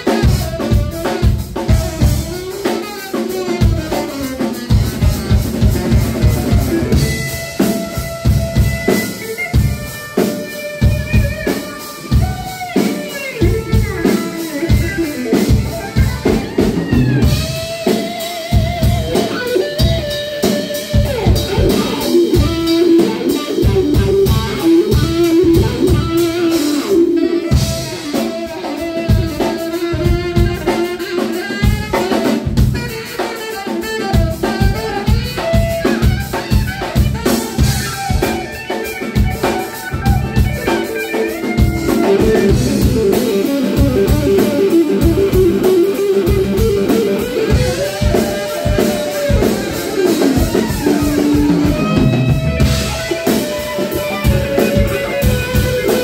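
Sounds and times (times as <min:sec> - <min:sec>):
drum kit steady beat: 0:00.0 - 0:56.0
electric guitar solo: 0:00.0 - 0:56.0.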